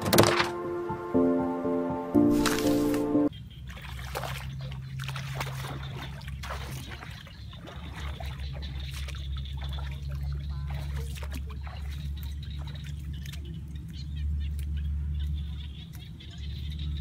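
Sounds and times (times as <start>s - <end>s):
footsteps squelching in mud: 2.3s - 16.7s.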